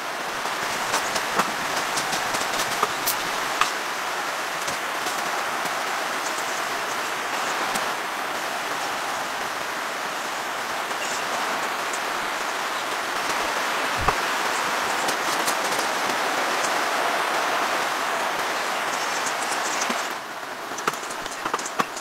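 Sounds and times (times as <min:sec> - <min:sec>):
rain on a tent: 0:00.0 - 0:22.0.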